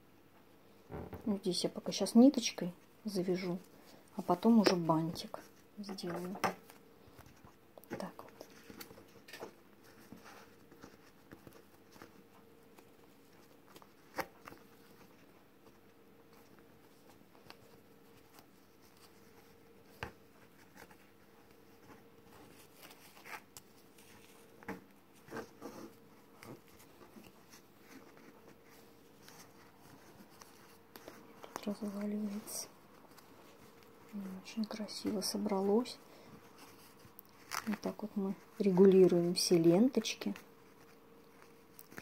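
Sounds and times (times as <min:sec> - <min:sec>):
low steady hum: 0:00.0 - 0:42.0
ribbons and thread rustling: 0:00.7 - 0:42.0.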